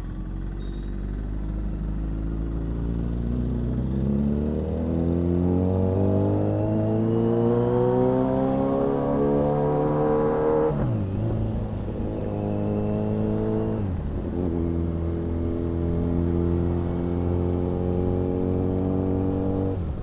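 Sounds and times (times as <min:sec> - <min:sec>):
motorcycle engine accelerating: 0:00.2 - 0:20.0.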